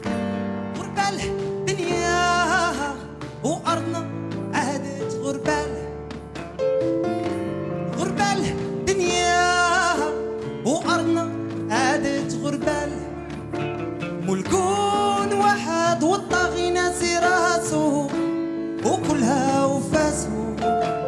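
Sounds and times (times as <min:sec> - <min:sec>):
man singing: 0:00.0 - 0:06.5, 0:07.8 - 0:21.0
drums: 0:00.0 - 0:21.0
electric guitar: 0:00.0 - 0:21.0.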